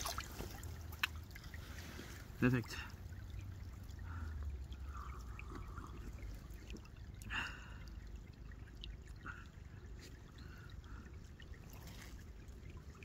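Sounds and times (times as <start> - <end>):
stream trickling: 0.0 - 13.0.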